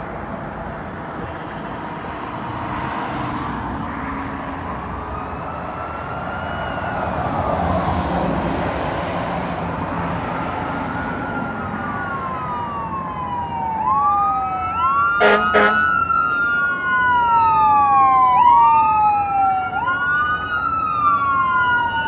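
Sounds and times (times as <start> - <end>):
road traffic: 0.0 - 22.0
fire truck siren wailing: 2.5 - 22.0.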